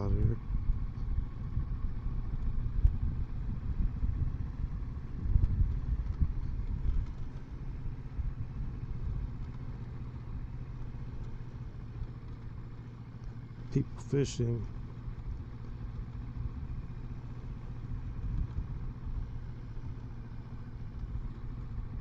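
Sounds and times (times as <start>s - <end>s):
motorcycle engine low rumble: 0.0s - 22.0s.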